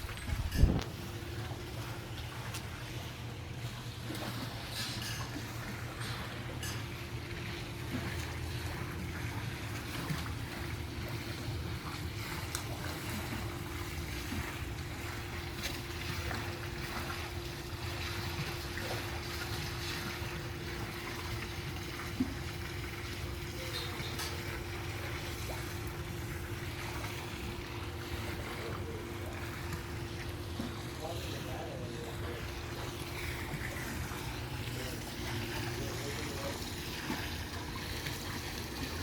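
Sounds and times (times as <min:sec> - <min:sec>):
low hum and rumble: 0:00.0 - 0:39.0
pool water sloshing: 0:00.0 - 0:39.0.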